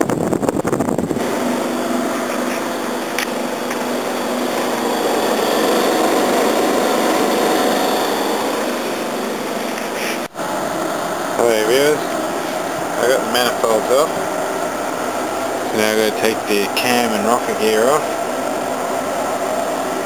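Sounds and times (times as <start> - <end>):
air conditioner running: 0.0 - 20.0.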